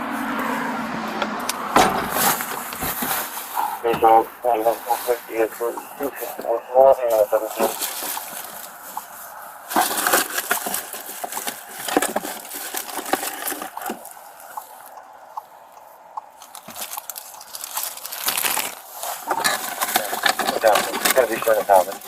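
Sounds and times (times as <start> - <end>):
items rustling and crinkling: 0.0 - 15.1, 15.8 - 22.0.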